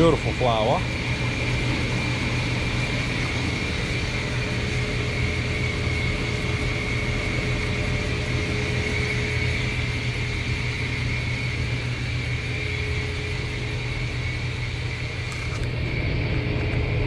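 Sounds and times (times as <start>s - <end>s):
high steady whine: 0.0s - 17.0s
ventilation fan humming: 0.0s - 17.0s.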